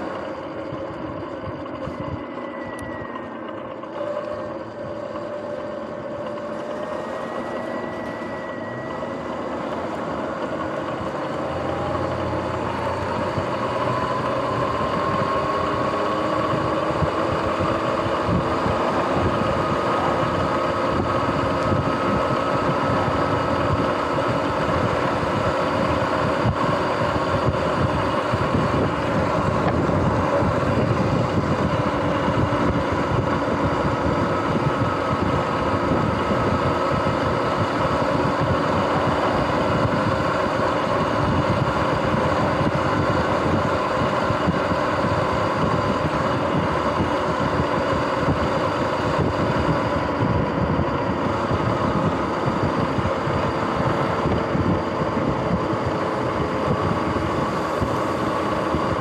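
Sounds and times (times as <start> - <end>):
electric motor whine: 0.0 - 59.0.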